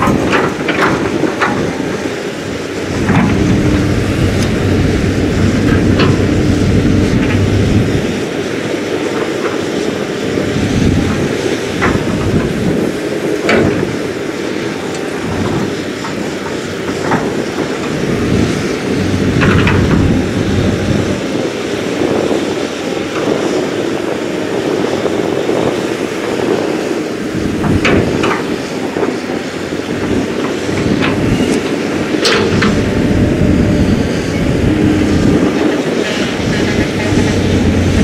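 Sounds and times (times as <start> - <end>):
excavator diesel engine: 0.0 - 38.0.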